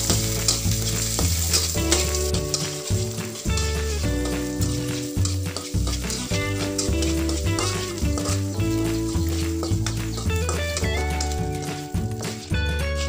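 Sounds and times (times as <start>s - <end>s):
background music with bass: 0.0s - 13.0s
food sizzling in hot oil: 0.0s - 13.0s
metal spatula scraping wok: 0.0s - 13.0s.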